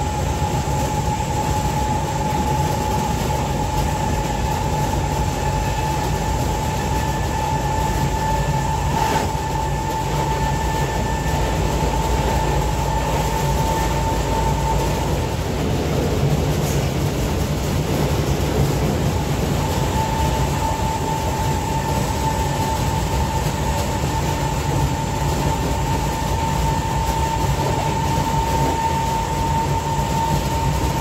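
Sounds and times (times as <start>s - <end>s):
high electric whine: 0.0s - 31.0s
train rolling rumble: 0.0s - 31.0s.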